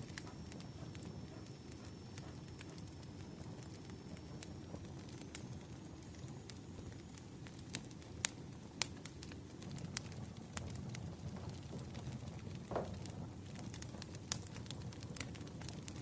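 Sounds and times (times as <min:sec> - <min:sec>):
fire crackling and popping: 0:00.0 - 0:16.0
wood fire rumbling: 0:00.0 - 0:16.0.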